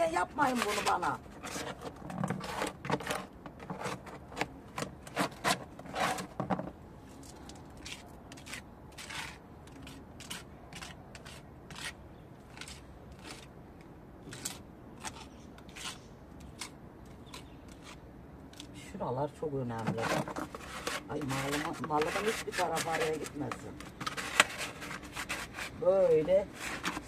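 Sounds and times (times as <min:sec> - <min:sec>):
brush scraping plaster on wall: 0:00.0 - 0:06.6, 0:07.8 - 0:13.5, 0:14.3 - 0:16.7, 0:19.8 - 0:27.0.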